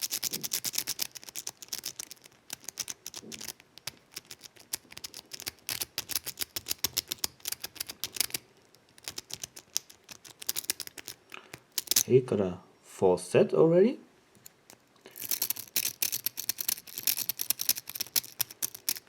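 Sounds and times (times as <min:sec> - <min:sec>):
lock pick raking metallic clicks: 0:00.0 - 0:12.1, 0:14.4 - 0:19.0.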